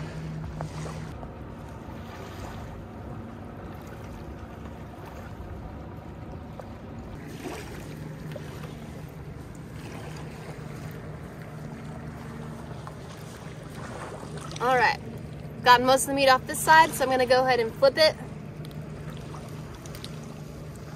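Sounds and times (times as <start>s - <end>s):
motorboat engine drone: 0.0s - 20.9s.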